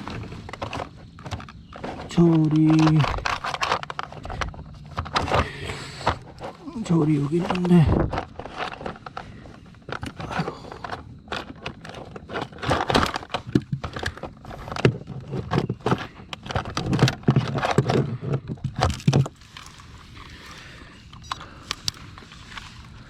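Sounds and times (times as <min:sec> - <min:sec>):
clattering and rattling in kayak: 0:00.0 - 0:23.0.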